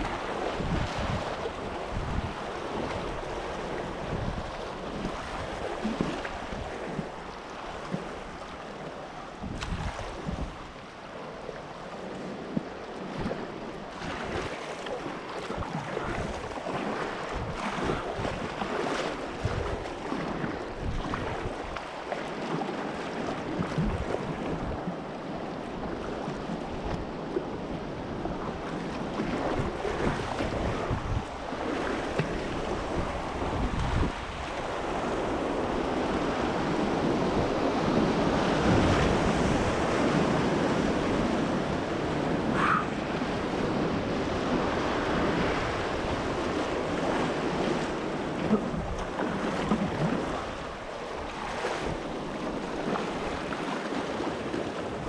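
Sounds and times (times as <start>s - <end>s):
wind buffeting microphone: 0.0s - 8.6s, 9.3s - 10.8s, 12.3s - 21.8s, 23.4s - 55.0s.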